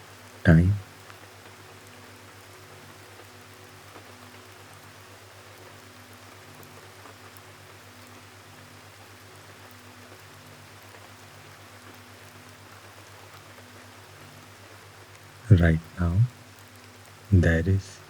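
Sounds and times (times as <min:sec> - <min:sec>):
gentle rainfall: 0:00.0 - 0:18.0.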